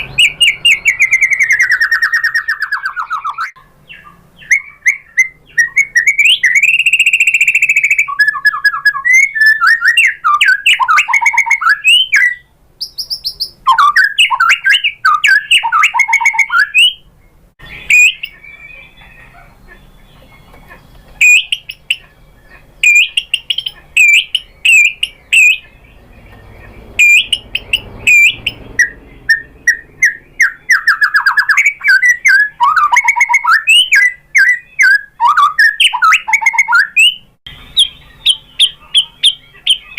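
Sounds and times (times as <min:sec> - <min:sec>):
bird singing whistled phrases: 0:00.0 - 0:19.9, 0:21.2 - 0:39.9
short sharp bird notes: 0:00.0 - 0:39.9.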